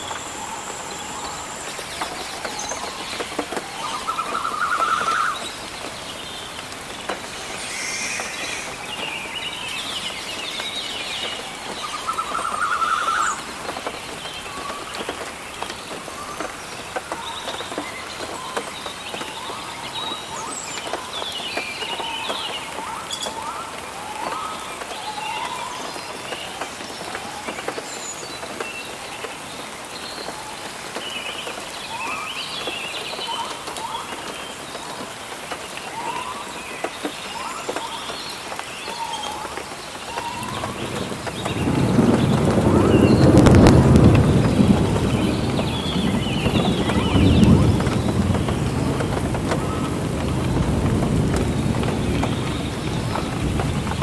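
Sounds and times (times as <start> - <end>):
birds chirping and trilling: 0.0 - 27.1, 35.8 - 54.0
rain: 0.0 - 54.0.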